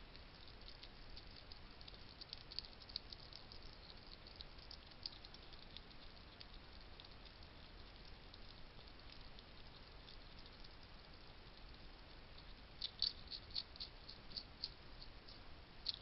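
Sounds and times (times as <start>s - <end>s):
low steady hiss: 0.0s - 16.0s
hedgehog crunching dry food: 0.1s - 16.0s.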